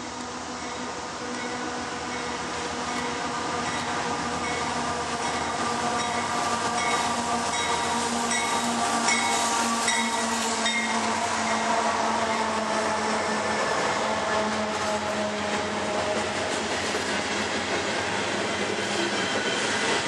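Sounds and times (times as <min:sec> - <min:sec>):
diesel locomotives droning: 0:00.0 - 0:20.0.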